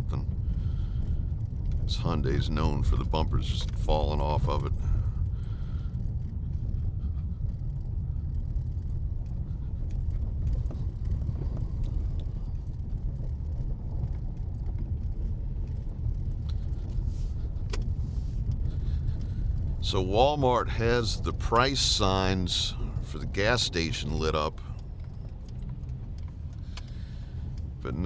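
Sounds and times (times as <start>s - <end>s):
car driving low rumble: 0.0s - 28.0s.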